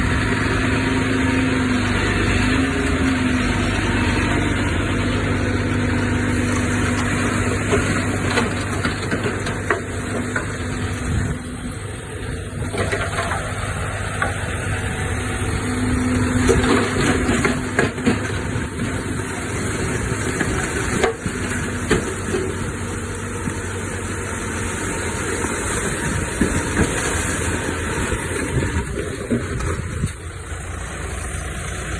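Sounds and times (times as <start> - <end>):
diesel earthmoving machinery running: 0.0 - 31.9.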